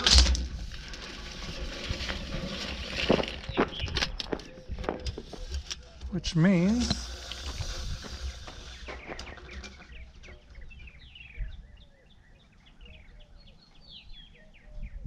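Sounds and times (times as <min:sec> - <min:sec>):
small birds chirping: 0:02.4 - 0:15.0.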